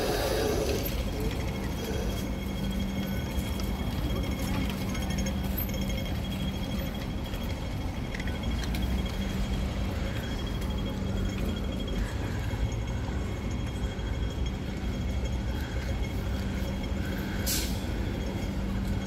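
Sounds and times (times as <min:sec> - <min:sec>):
street noise: 0:00.0 - 0:19.0
train equipment humming: 0:00.0 - 0:19.0.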